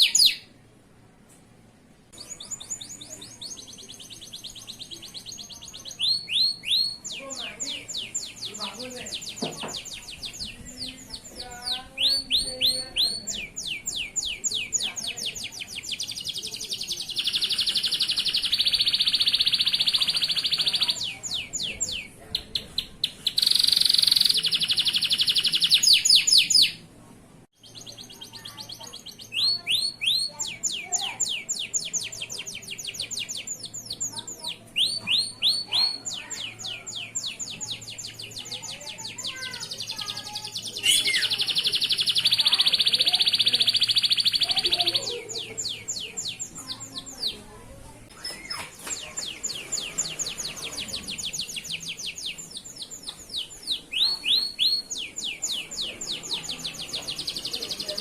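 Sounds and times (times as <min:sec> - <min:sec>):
canary singing chirps and trills: 0:00.0 - 0:00.7, 0:02.1 - 0:26.9, 0:27.6 - 0:58.0.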